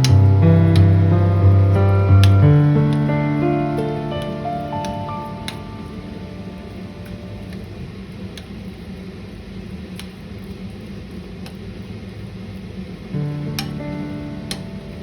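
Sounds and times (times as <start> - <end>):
fan humming and hissing: 0.0 - 15.0.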